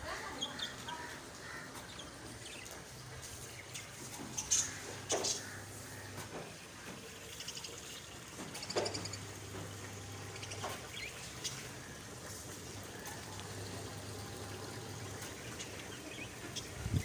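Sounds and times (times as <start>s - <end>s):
small birds chirping: 0.0s - 6.6s, 7.2s - 17.0s.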